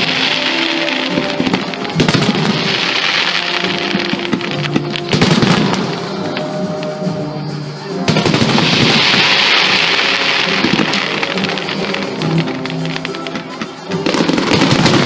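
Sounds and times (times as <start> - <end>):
fireworks bursting: 0.0 - 15.0
fireworks crackling: 0.0 - 15.0
music: 0.0 - 15.0.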